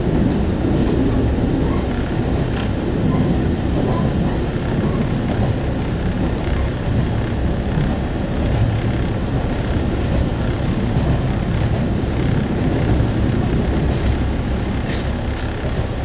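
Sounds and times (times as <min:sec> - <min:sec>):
diesel engine drone: 0:00.0 - 0:16.0
wheels on rails: 0:00.8 - 0:16.0.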